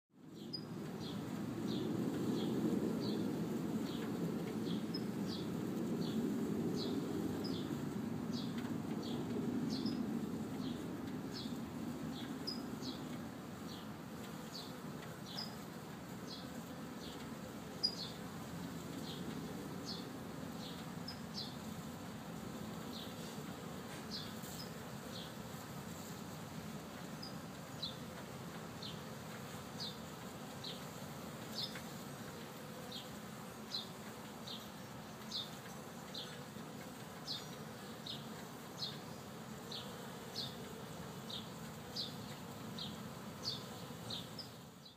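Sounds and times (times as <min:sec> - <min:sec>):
bees buzzing: 0:06.8 - 0:44.9.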